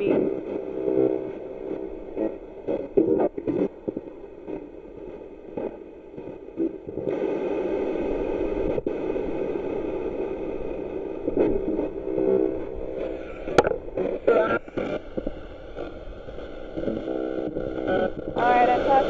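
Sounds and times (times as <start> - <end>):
radio static and station fragments: 0.0 - 19.0.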